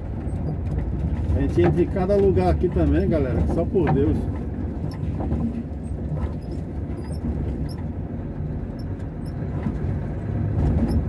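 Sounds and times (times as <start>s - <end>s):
tyres rolling on dirt road: 0.0s - 11.0s
vehicle engine rumbling: 0.0s - 11.0s.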